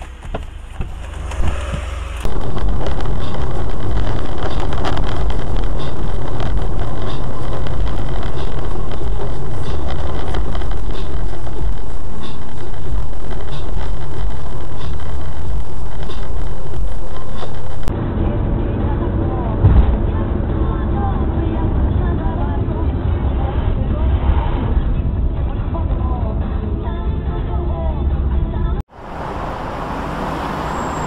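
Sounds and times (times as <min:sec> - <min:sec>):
car driving noise from inside: 0:00.0 - 0:26.2, 0:28.8 - 0:31.0.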